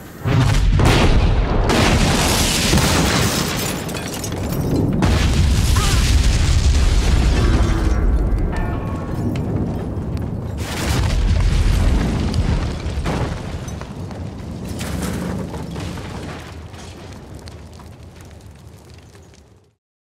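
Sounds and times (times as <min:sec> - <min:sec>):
deep explosion rumble: 0:00.2 - 0:03.2, 0:04.4 - 0:19.2.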